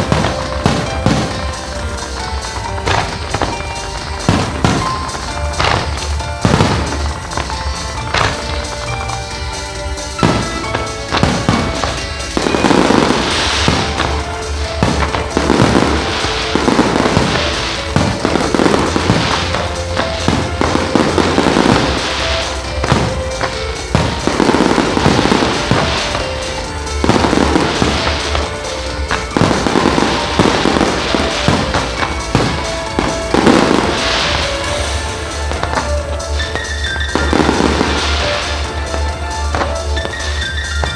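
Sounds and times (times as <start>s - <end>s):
fireworks bursting: 0.0s - 40.9s
fireworks crackling: 0.0s - 40.9s
music soundtrack: 0.0s - 40.9s.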